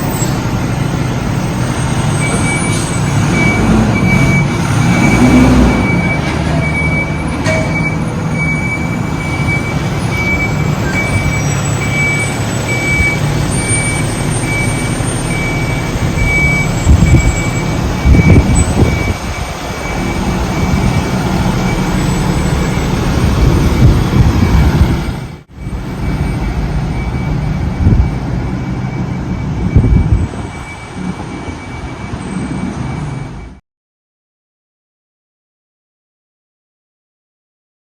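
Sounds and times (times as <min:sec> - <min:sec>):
diesel engine running: 0:00.0 - 0:33.6
reversing alarm beeping: 0:00.0 - 0:33.6.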